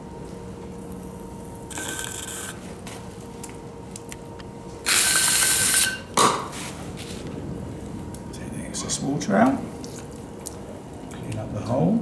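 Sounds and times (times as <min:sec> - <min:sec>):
potter's wheel humming: 0:00.0 - 0:12.0.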